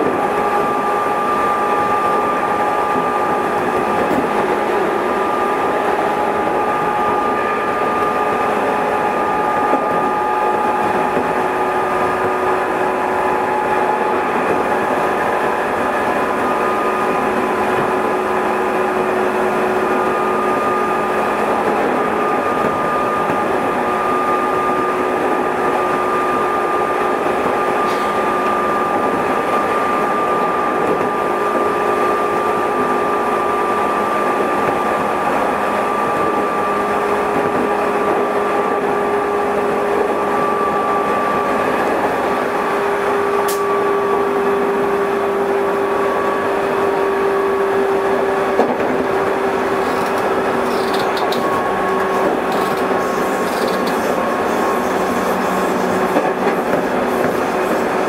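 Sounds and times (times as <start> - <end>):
train rail noise: 0.0 - 58.0.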